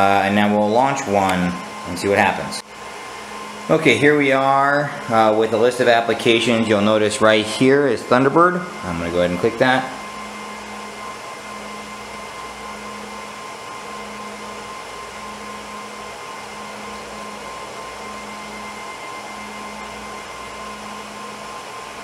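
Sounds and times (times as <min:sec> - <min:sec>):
cooling fans whirring: 0:00.0 - 0:22.0
faint high whine: 0:00.0 - 0:22.0.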